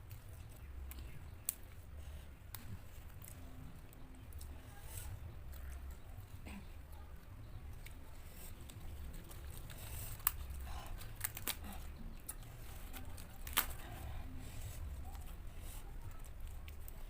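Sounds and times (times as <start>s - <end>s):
chewing leafy greens: 0.0s - 17.0s
low steady hum: 0.0s - 17.0s.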